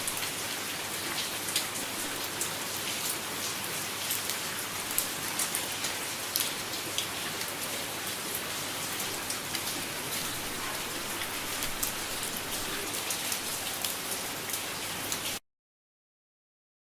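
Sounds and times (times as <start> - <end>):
light rain falling: 0.0 - 15.4.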